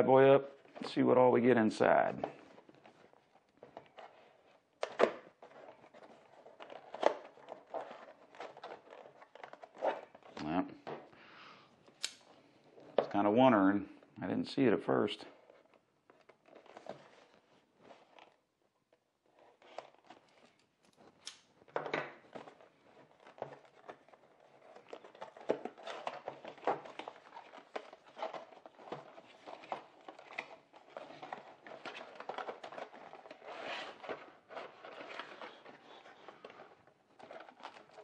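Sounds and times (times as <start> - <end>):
packaging rustling and crinkling: 0.4 - 11.2, 15.2 - 38.0.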